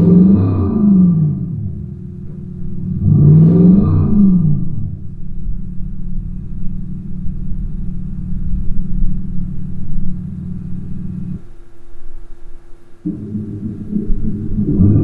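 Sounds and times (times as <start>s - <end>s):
faint steady hum: 0.0s - 15.0s
synthetic exhaust sound idling: 0.0s - 15.0s.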